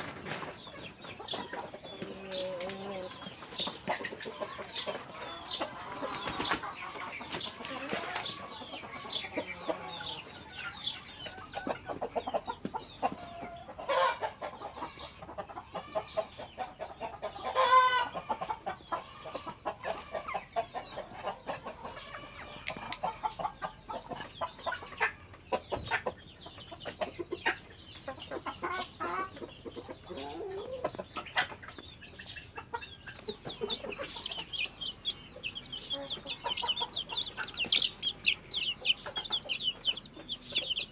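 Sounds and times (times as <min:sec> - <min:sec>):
drawn-out chicken call: 0:00.0 - 0:26.2, 0:26.8 - 0:40.9
chickens clucking: 0:00.0 - 0:40.9.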